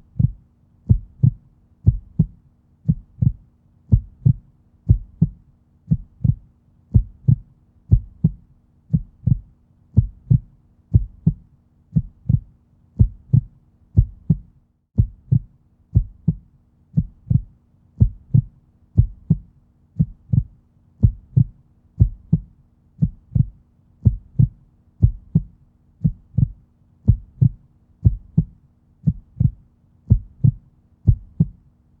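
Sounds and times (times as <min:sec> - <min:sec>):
heartbeat thudding: 0:00.0 - 0:31.6
faint steady hum: 0:00.0 - 0:32.0.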